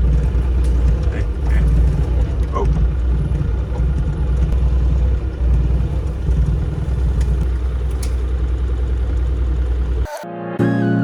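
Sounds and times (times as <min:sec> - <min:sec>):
excavator diesel engine running: 0:00.0 - 0:10.2.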